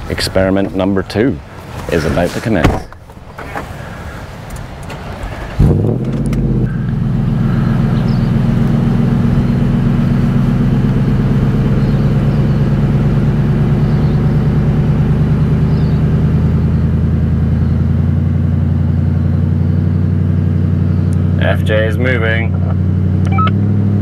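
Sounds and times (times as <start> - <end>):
engine straining under load: 1.4 - 24.0.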